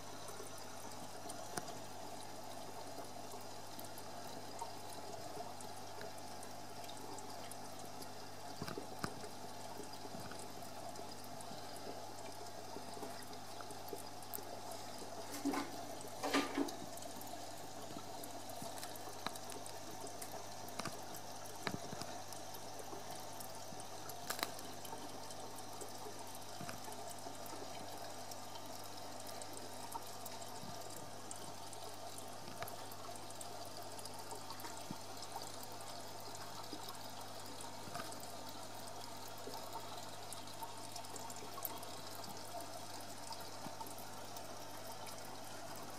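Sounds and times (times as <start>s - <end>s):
aquarium water trickling: 0.0s - 45.9s
low steady hum: 0.0s - 45.9s.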